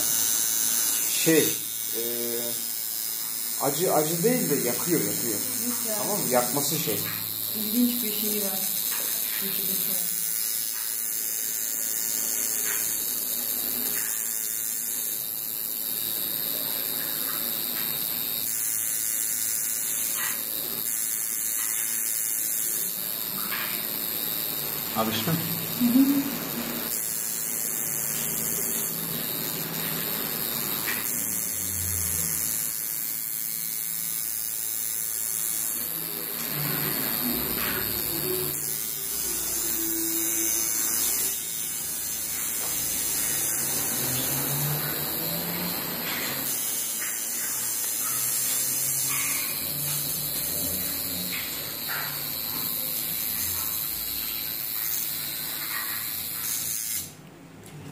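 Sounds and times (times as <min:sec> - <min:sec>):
tattoo machine buzzing: 0:00.0 - 0:57.4.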